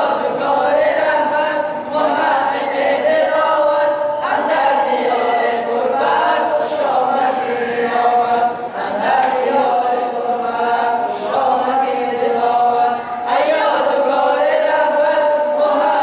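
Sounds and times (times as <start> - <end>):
boys and men singing unaccompanied: 0.0 - 16.0.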